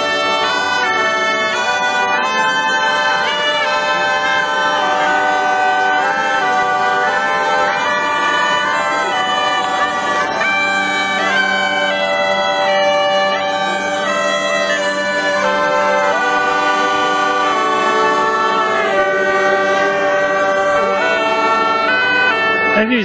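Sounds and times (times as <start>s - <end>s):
bagpipe drone: 0.0s - 23.0s
bagpipes playing a melody: 0.0s - 23.0s.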